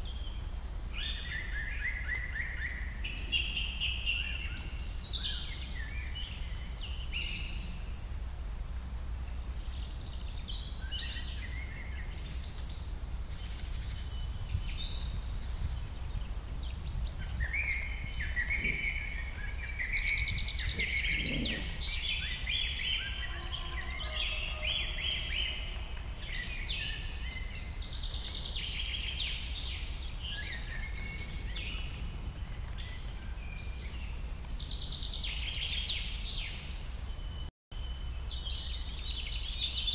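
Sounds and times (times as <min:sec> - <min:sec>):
small birds chirping: 0:00.0 - 0:08.3, 0:08.9 - 0:39.9.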